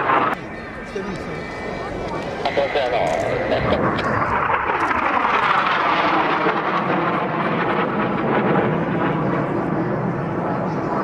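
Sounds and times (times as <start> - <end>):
jet passing overhead: 0.0 - 11.0.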